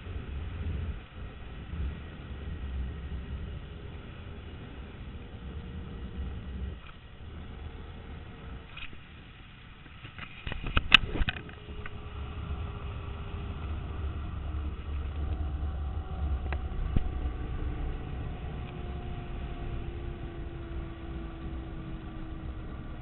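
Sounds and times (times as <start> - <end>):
low rumble: 0.0 - 23.0
trolley whine on cable: 0.0 - 23.0.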